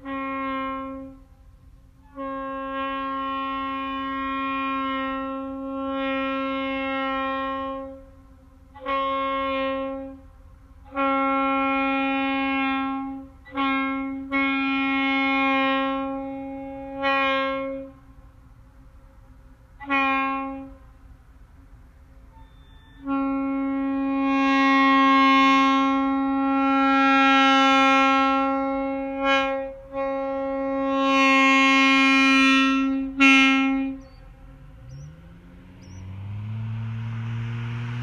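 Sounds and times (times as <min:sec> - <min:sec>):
locomotive air horn blasts: 0:00.0 - 0:18.3, 0:19.8 - 0:21.0, 0:22.2 - 0:38.0.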